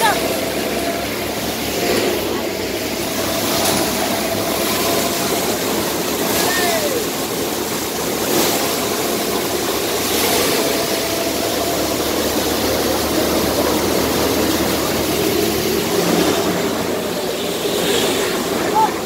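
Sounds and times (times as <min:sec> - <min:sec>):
thresher running: 0:00.0 - 0:19.0.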